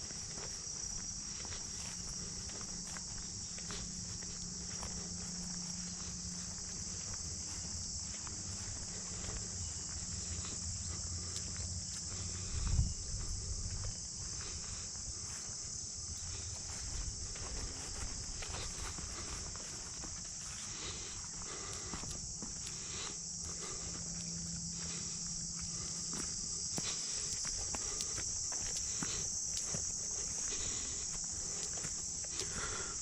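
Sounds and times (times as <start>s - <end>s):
footsteps on trail: 0.0s - 33.0s
high-pitched insect chorus: 0.0s - 33.0s.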